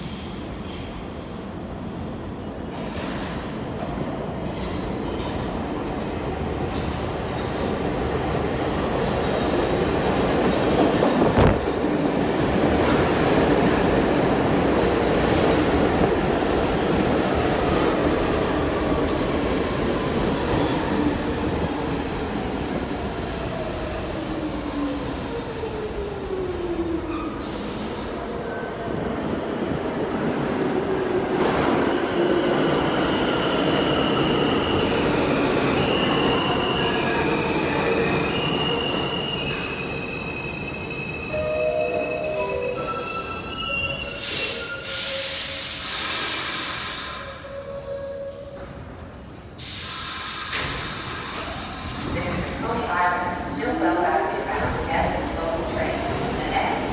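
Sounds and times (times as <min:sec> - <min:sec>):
subway train rumbling on rails: 0:00.0 - 0:56.9.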